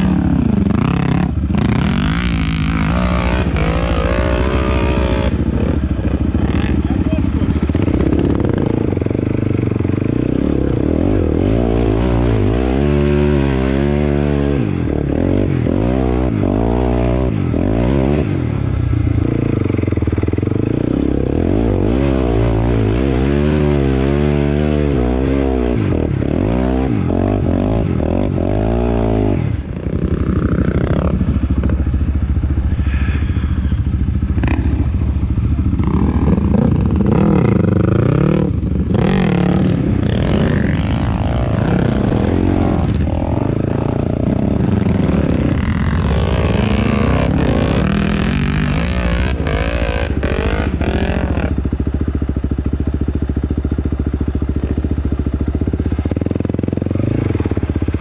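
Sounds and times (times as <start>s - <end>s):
quad engine revving: 0.0s - 31.7s, 32.8s - 51.9s, 55.7s - 58.0s.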